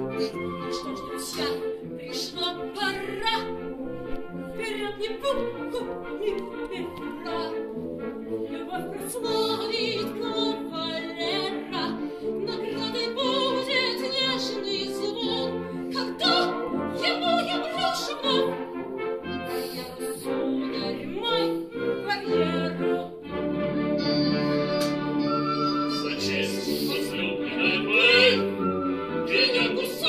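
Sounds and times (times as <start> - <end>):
operatic singing with vibrato: 0.0 - 30.0
orchestral accompaniment: 0.0 - 30.0.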